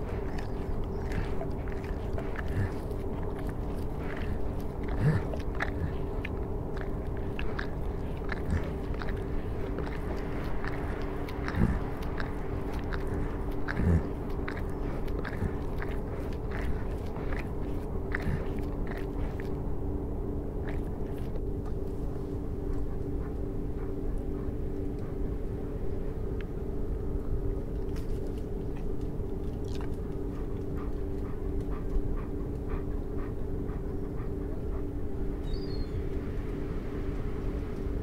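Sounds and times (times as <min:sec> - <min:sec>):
dense low rumble: 0:00.0 - 0:38.0.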